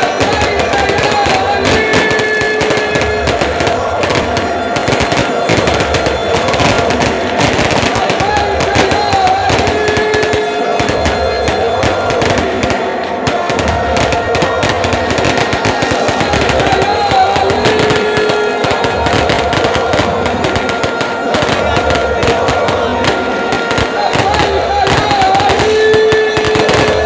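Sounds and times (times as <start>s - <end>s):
fireworks crackling and popping: 0.0s - 27.0s.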